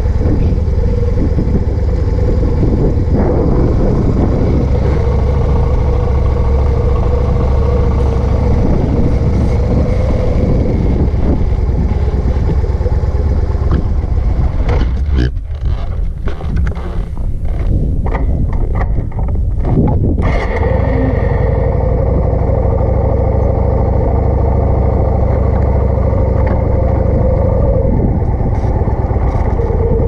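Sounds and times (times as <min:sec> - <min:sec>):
motorcycle engine rumbling: 0:00.0 - 0:30.0
wind buffeting microphone: 0:00.0 - 0:30.0
wind rush: 0:00.0 - 0:30.0.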